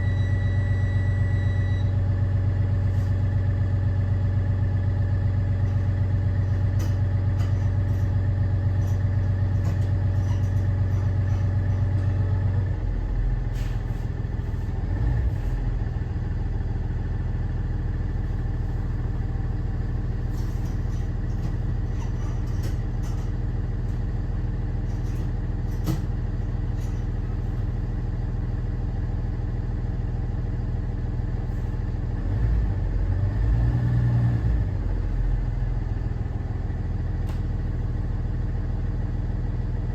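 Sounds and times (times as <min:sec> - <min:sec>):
diesel bus engine: 0:00.0 - 0:39.9.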